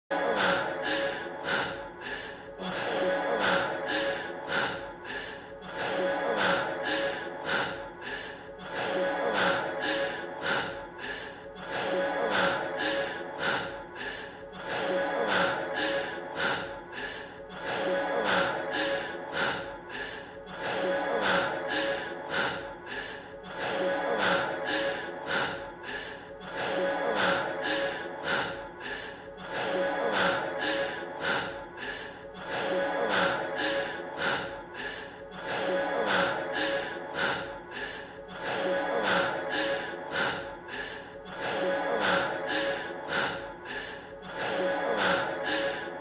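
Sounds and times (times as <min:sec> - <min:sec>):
man panting heavily: 0:00.1 - 0:46.0.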